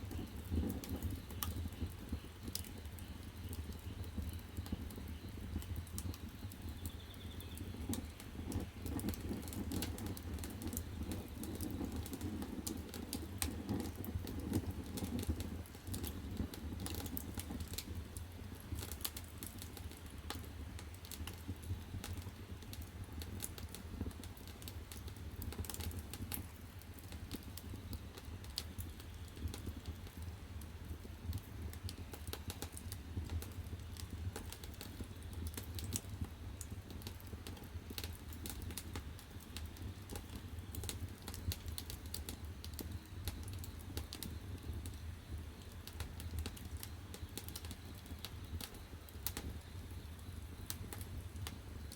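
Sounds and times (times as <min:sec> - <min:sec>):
firewood crackling and popping: 0:00.0 - 0:51.9
low fire rumble: 0:00.0 - 0:51.9.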